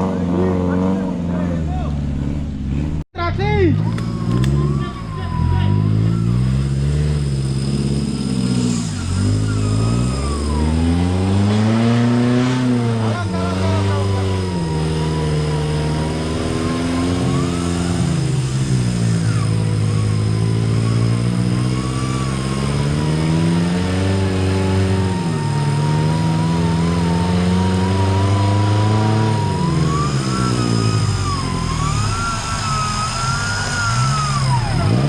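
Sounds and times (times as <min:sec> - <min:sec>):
off-road engine revving: 0:00.0 - 0:35.0
thin wavering whine: 0:03.9 - 0:13.0, 0:13.6 - 0:35.0.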